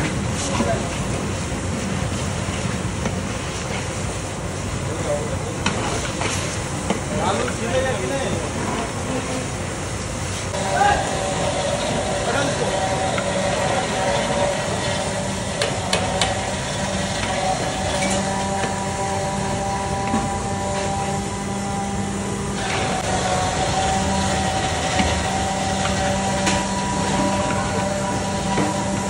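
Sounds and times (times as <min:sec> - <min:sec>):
kitchen hum and hiss: 0:00.0 - 0:29.0.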